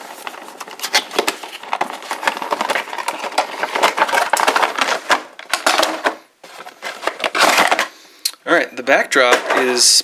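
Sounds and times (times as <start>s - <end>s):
plastic tray crinkling and scraping: 0.0s - 8.0s, 8.9s - 10.0s.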